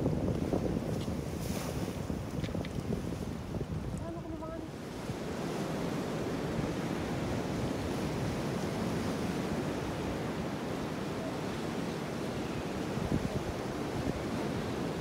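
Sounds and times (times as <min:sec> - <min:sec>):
ocean surf washing on rocks: 0:00.0 - 0:15.0
wind buffeting microphone: 0:00.0 - 0:15.0.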